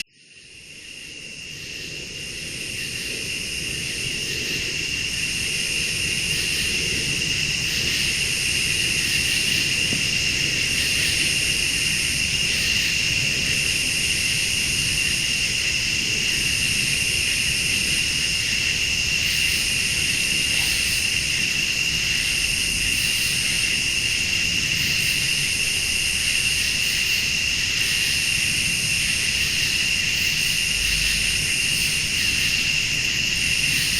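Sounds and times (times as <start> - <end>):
crickets trilling: 0.0 - 33.9
pulsing insect call: 0.0 - 33.9.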